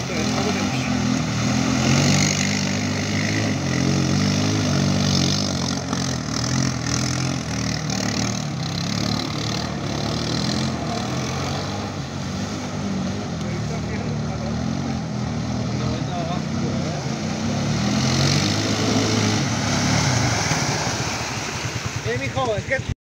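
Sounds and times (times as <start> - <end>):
vehicle engine running at low revs: 0.0 - 22.9.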